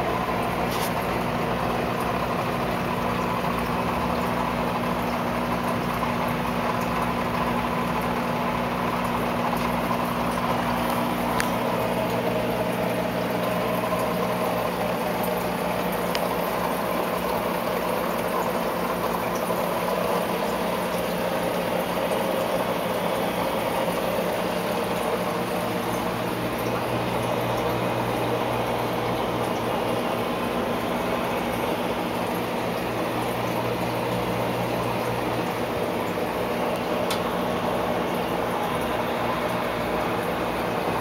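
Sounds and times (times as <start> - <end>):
low motor hum: 0.0 - 41.0
water trickling and splashing: 0.0 - 41.0.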